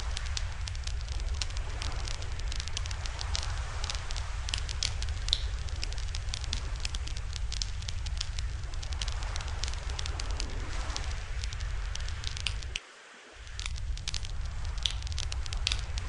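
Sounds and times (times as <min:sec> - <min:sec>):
campfire crackling and popping: 0:00.0 - 0:12.8, 0:13.4 - 0:16.0
steady low rumble: 0:00.0 - 0:12.8, 0:13.4 - 0:16.0.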